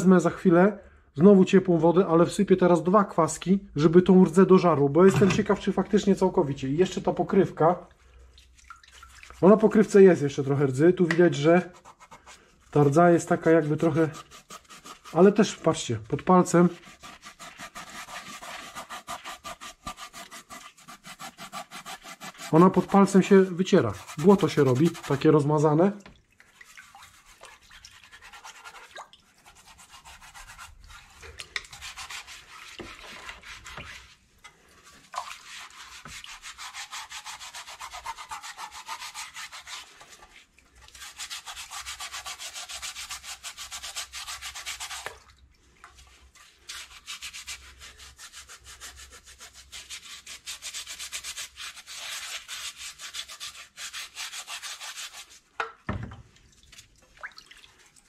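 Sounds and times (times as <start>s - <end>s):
scrubbing on wet steel sheet: 8.4s - 55.6s.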